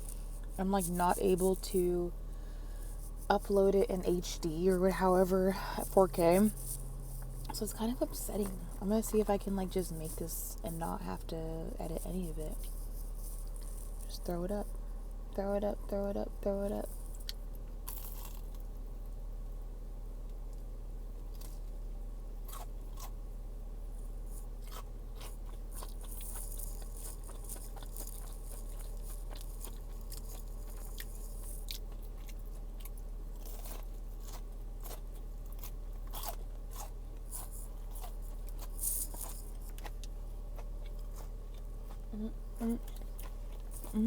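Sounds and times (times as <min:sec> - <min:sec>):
chewing crunchy fried food: 0:00.0 - 0:44.0.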